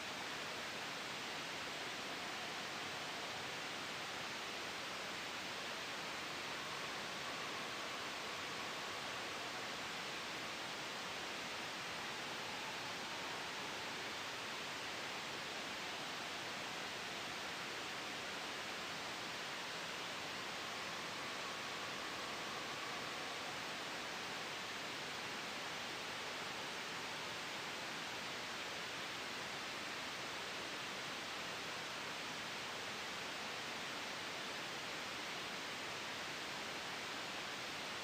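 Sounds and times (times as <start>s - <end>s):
gentle wind: 0.0s - 38.0s
soft white noise hiss: 0.0s - 38.0s.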